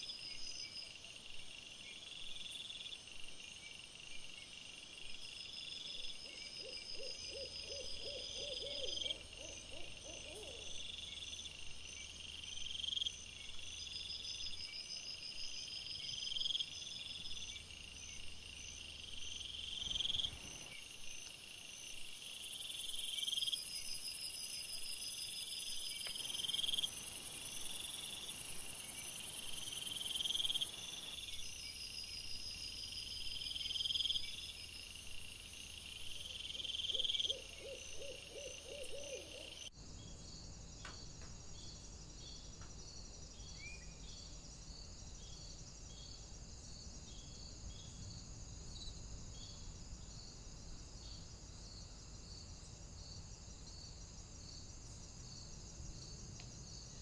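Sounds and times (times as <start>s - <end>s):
insect chirp: 0.0s - 57.0s
insects trilling: 5.2s - 57.0s.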